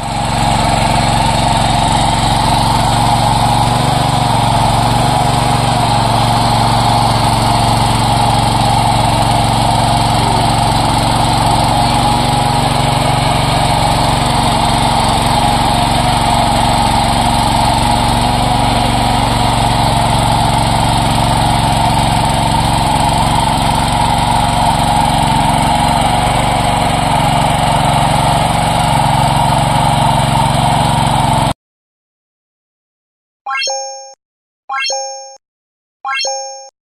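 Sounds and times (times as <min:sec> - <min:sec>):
small engine running: 0:00.0 - 0:31.6.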